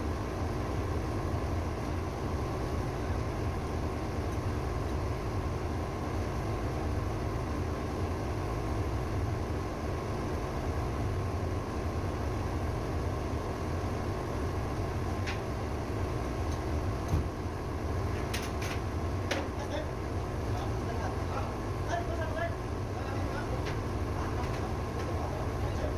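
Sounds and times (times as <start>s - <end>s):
engine droning steadily: 0.0s - 25.9s.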